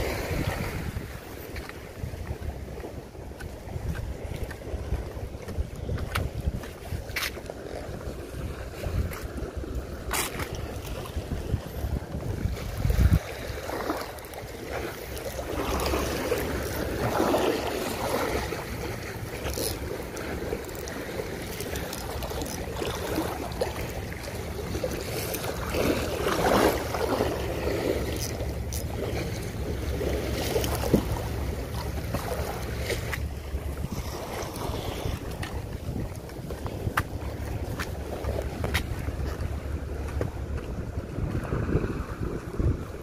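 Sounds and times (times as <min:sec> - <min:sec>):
sea water washing: 0:00.0 - 0:43.0
wind buffeting microphone: 0:00.0 - 0:43.0.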